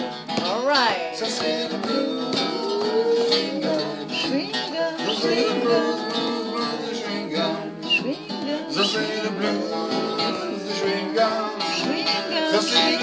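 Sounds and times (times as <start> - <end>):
guitars playing blues: 0.0 - 13.0.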